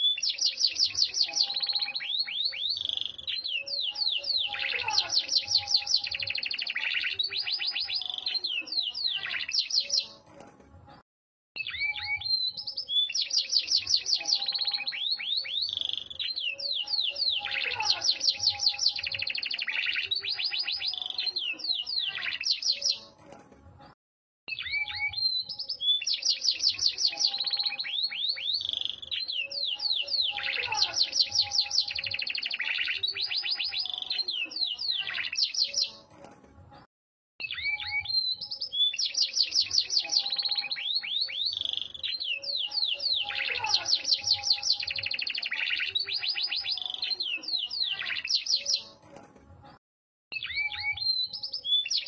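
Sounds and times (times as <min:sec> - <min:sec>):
canary singing trills: 0:00.0 - 0:10.2, 0:11.6 - 0:23.2, 0:24.5 - 0:36.1, 0:37.4 - 0:49.0, 0:50.3 - 0:52.0.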